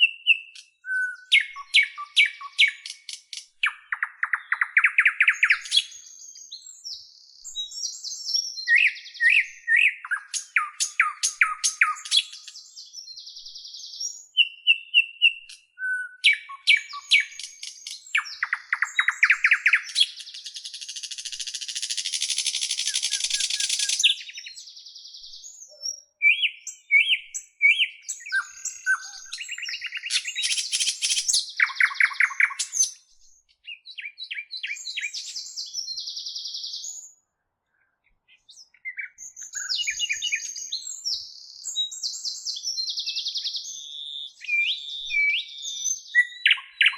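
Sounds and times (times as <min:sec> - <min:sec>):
bird song with trills: 0:00.0 - 0:46.9.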